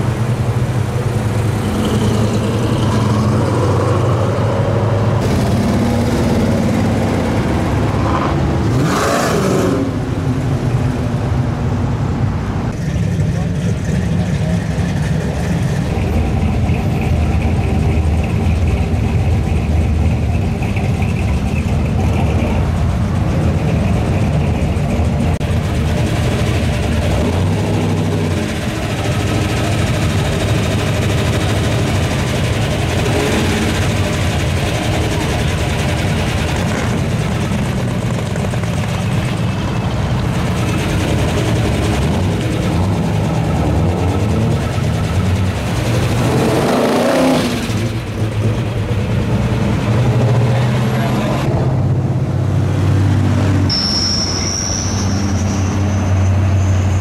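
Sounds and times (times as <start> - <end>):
car engines in slow traffic: 0.0 - 53.7.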